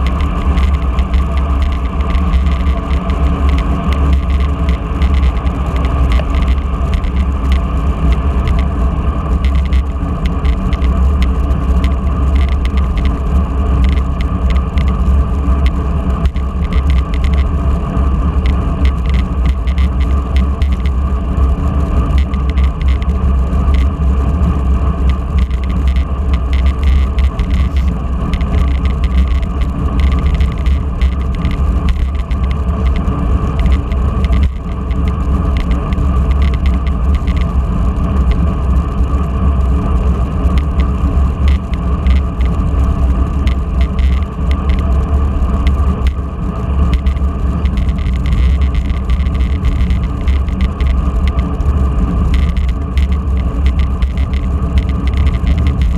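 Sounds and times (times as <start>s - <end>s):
road and tyre noise: 0.0s - 55.9s
wind rushing over microphone: 0.0s - 55.9s.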